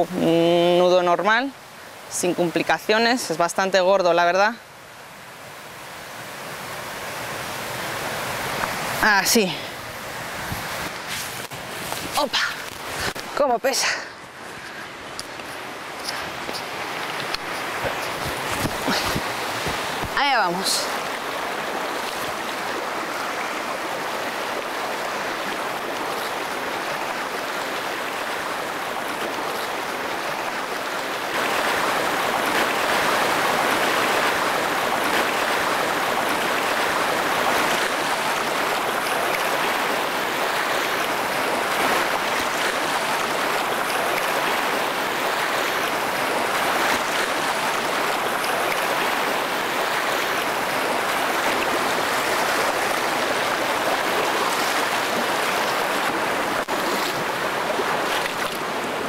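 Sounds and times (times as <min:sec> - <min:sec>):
stream rushing over stones: 0:00.0 - 0:59.0
splashes of wading: 0:06.4 - 0:59.0.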